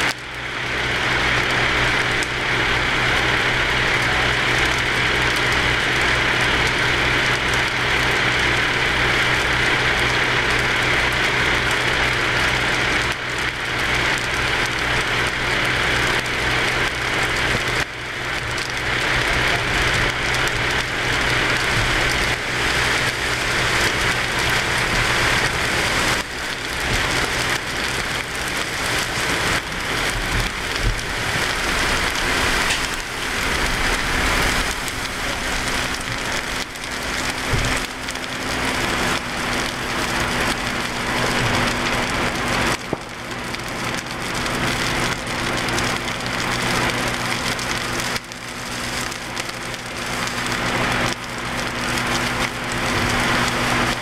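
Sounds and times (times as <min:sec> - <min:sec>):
fire crackling and popping: 0:00.0 - 0:54.0
steady low hum: 0:00.0 - 0:54.0.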